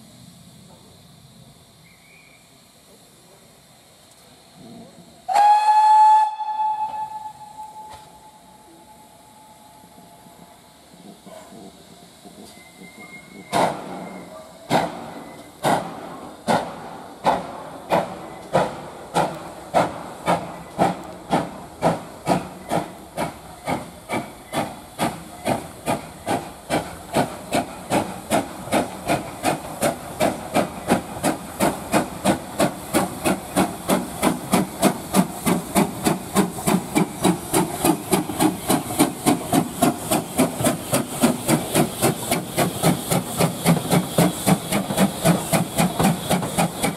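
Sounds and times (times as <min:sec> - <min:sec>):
steam hissing: 0:00.0 - 0:46.9
steam locomotive chuffing: 0:00.0 - 0:46.9.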